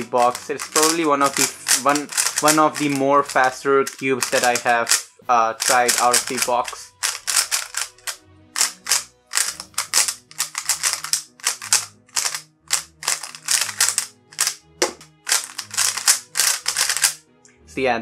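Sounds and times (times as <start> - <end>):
speed cube clicking: 0.1 - 17.2.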